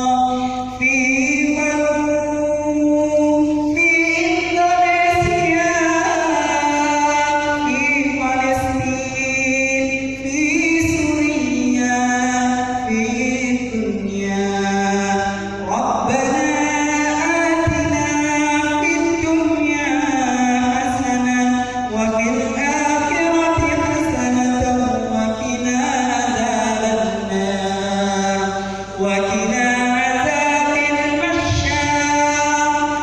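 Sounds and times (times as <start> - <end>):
man chanting a prayer: 0.0 - 33.0.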